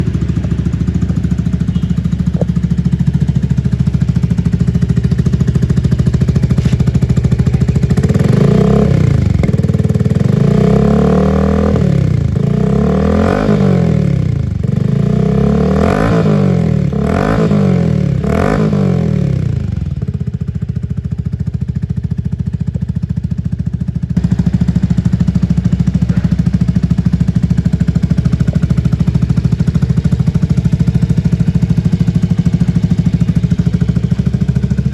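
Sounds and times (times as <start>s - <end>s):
motorcycle engine revving: 0.0s - 21.7s, 22.6s - 34.9s.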